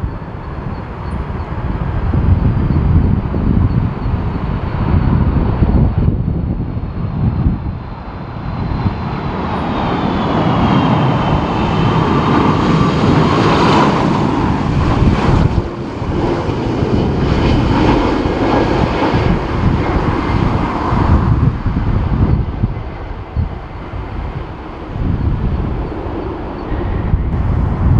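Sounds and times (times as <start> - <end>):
jet engines passing: 0.0 - 27.9
wind rumbling on microphone: 0.0 - 27.9.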